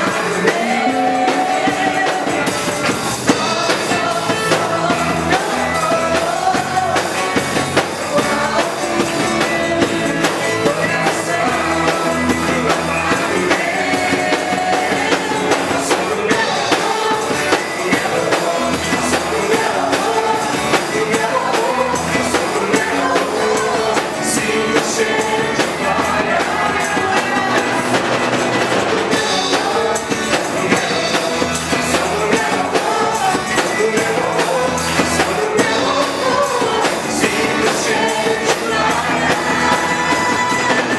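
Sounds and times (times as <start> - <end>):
praise song with band: 0.0 - 40.9.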